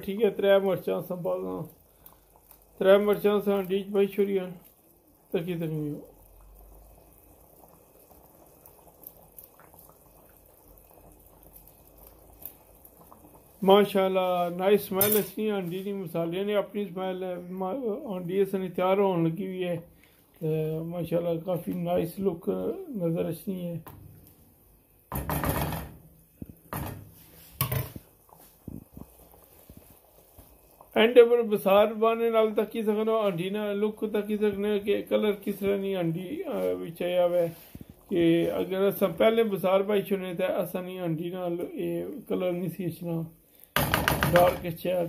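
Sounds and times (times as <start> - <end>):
curry bubbling in a pan: 0.0 - 45.0.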